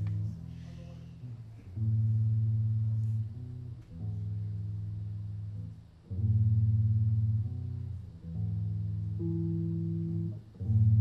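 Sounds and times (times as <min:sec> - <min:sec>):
electric bass guitar chords: 0:00.0 - 0:11.0.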